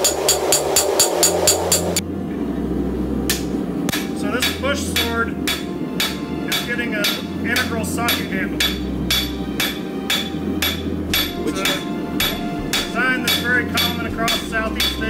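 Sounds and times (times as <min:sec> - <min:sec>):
hammer striking metal on anvil: 0:00.0 - 0:02.0, 0:03.3 - 0:15.0.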